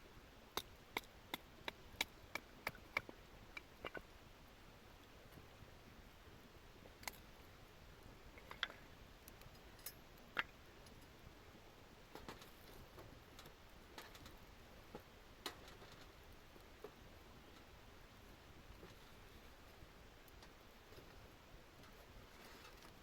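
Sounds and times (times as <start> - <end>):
low hiss: 0.0 - 23.0
campfire crackling: 0.3 - 23.0.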